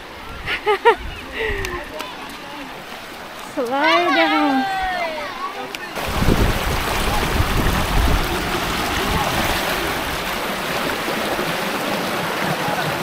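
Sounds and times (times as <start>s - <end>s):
waterfall rushing over rocks: 2.0s - 13.0s.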